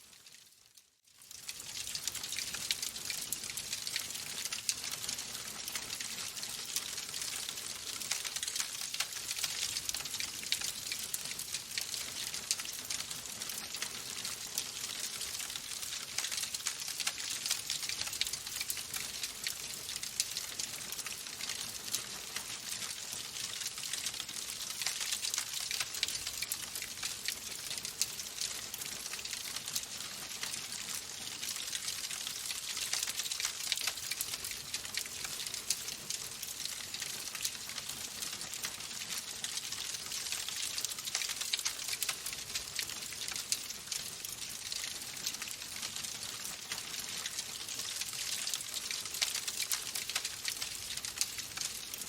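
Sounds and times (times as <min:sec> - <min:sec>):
wood fire crackling: 0:01.1 - 0:52.0.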